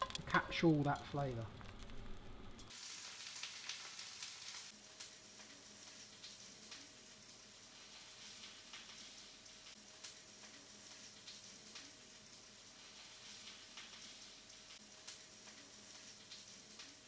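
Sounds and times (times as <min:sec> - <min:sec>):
food sizzling in hot oil: 0:00.0 - 0:17.0
sharp oil crackles: 0:00.0 - 0:17.0.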